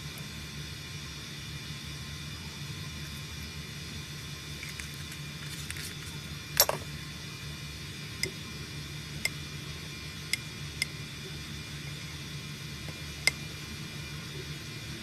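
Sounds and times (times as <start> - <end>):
steady low hum and hiss: 0.0 - 15.0.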